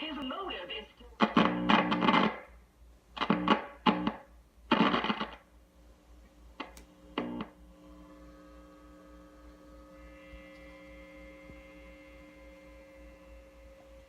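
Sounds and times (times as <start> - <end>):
radio speaker mains hum: 0.0 - 14.0.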